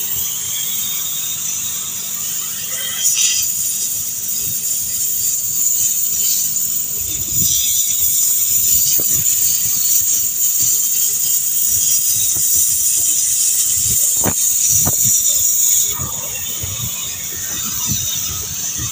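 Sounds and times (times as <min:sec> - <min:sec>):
cutting torch hissing: 0:00.0 - 0:18.9.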